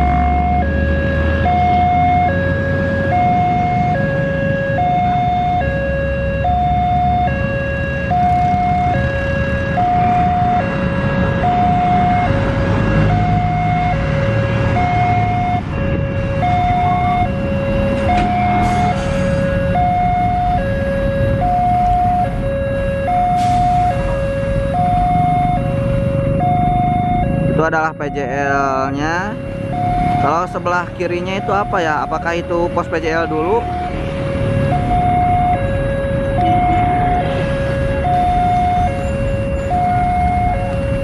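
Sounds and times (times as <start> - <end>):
motorcycle engines: 0.0 - 41.0
road traffic: 0.0 - 41.0
two-tone crossing alarm: 0.0 - 41.0.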